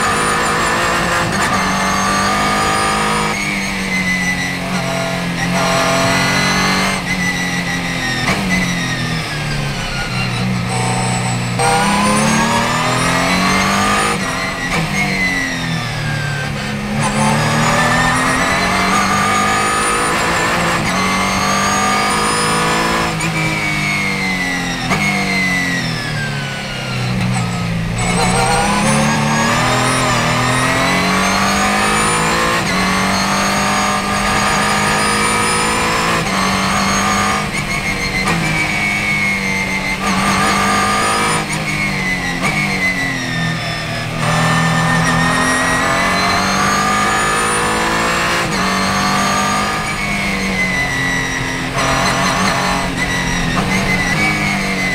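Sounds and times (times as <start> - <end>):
race car engine accelerating: 0.0 - 54.9.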